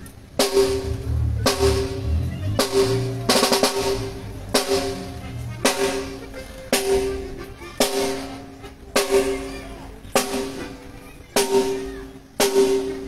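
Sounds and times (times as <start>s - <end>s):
quick flurry of drum strokes: 0.0s - 13.0s
ringing drum strikes: 0.4s - 13.0s.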